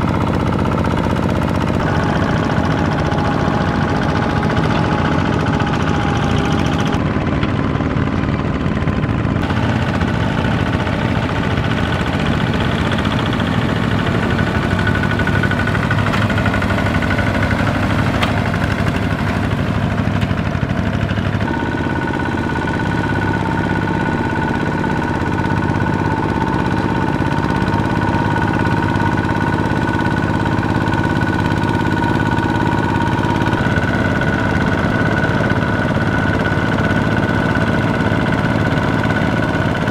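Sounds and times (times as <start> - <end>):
diesel engine running: 0.0 - 39.9
wheels churning through mud: 0.0 - 39.9.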